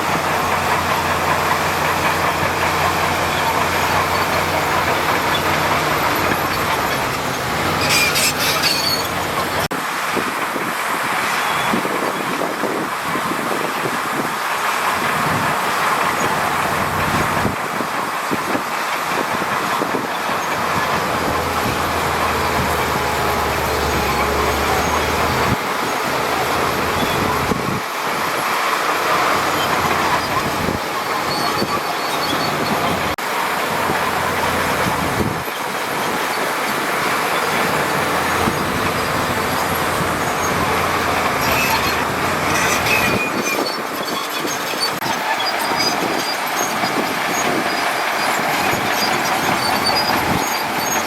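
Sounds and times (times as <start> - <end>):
bulldozer engine: 0.0 - 51.0
steel tracks clanking and squealing: 0.0 - 51.0.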